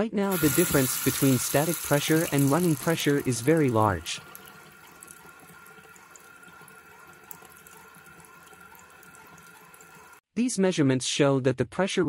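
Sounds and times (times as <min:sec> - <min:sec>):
faucet running into sink: 0:00.3 - 0:10.2.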